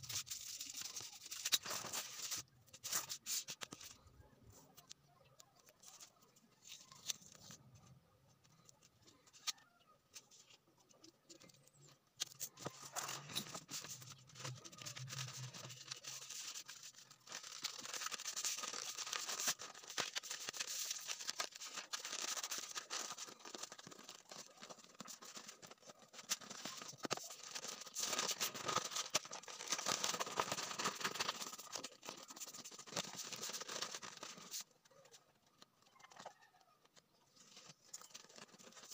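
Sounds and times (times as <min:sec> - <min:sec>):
paper rustling and crinkling: 0:00.0 - 0:38.9.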